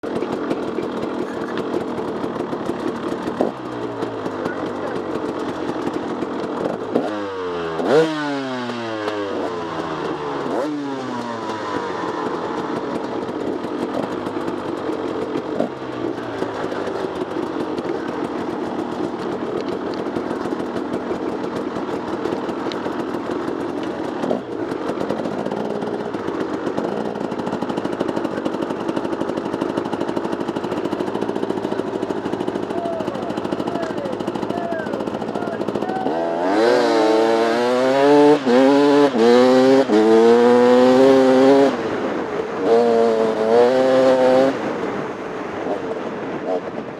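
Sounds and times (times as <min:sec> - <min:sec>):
engine clatter and knocks: 0:00.0 - 0:46.9
motorcycle engines: 0:00.0 - 0:46.9.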